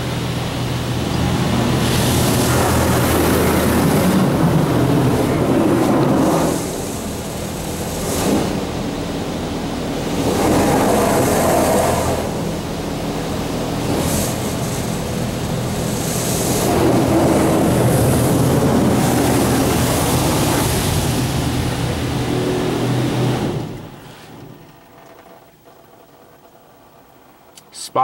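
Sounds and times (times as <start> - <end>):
water jets spraying on car: 0.0 - 26.7
steady low hum: 0.0 - 28.0.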